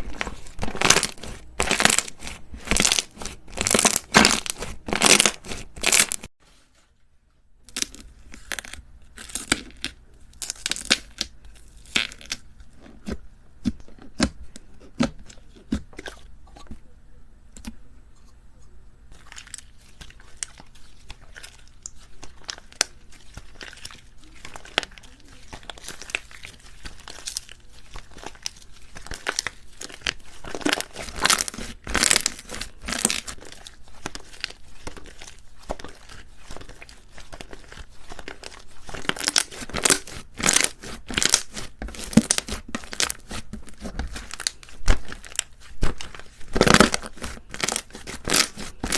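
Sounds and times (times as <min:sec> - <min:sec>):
slime crackling and popping: 0:00.0 - 0:06.3, 0:07.7 - 0:16.2, 0:19.1 - 0:48.9.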